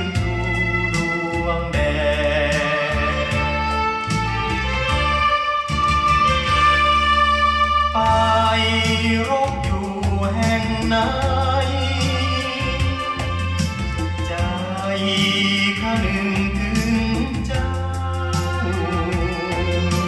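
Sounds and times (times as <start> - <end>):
instrumental backing: 0.0 - 20.0
person singing on vinyl record: 0.0 - 20.0.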